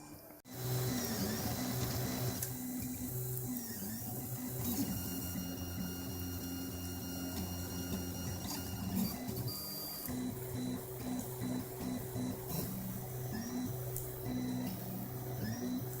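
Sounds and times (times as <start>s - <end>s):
printer stepper motors whining: 0.5s - 16.0s.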